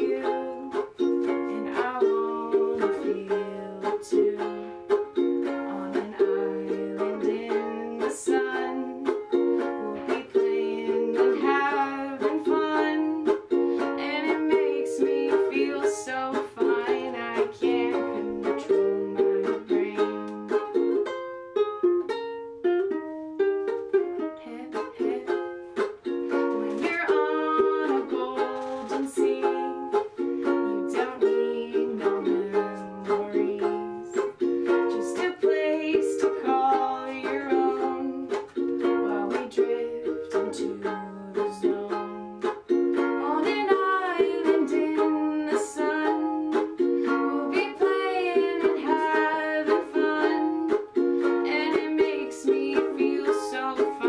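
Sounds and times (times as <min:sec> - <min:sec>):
woman singing: 0:00.0 - 0:20.9, 0:23.7 - 0:54.0
ukulele strumming chords: 0:00.0 - 0:54.0.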